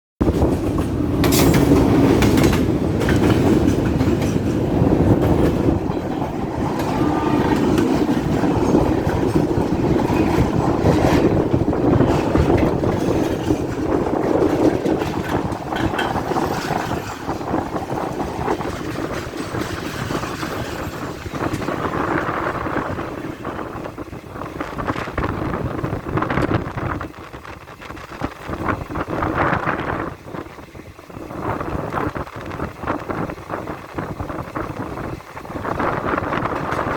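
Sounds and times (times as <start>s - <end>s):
wheels clacking over rails: 0.2s - 26.9s, 31.1s - 36.9s
train rumbling on track: 0.2s - 36.9s.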